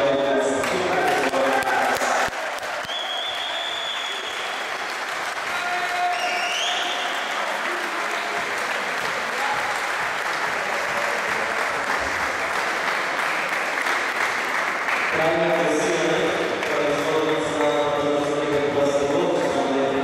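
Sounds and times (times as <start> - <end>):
applause: 0.6 - 19.8.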